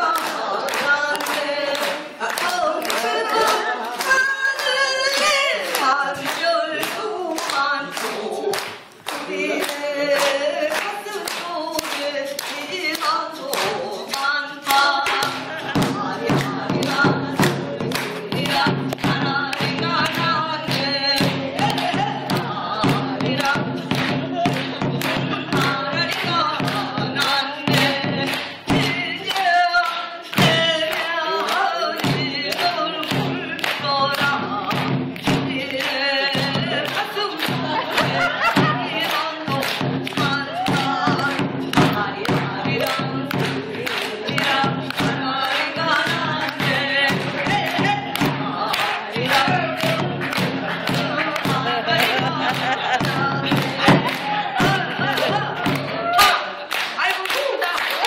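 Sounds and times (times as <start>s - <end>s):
person singing: 0.0s - 58.0s.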